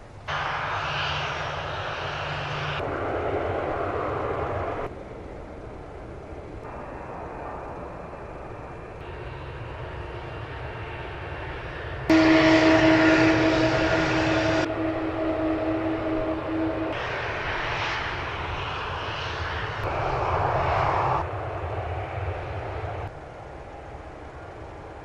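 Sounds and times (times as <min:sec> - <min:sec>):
airliner engine noise: 0:00.0 - 0:25.0
steady humming whine: 0:00.0 - 0:25.0.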